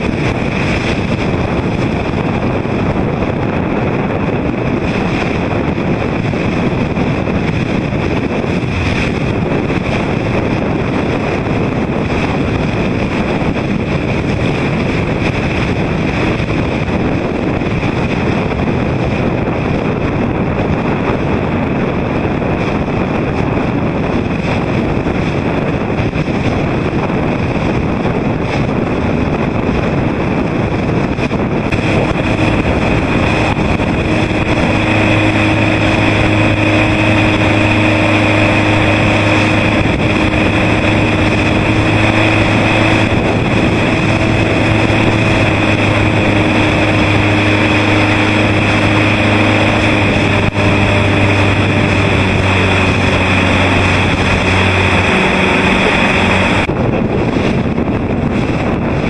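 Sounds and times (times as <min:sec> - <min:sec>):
motorboat engine hum: 0:00.0 - 0:59.0
wind buffeting microphone: 0:00.0 - 0:59.0.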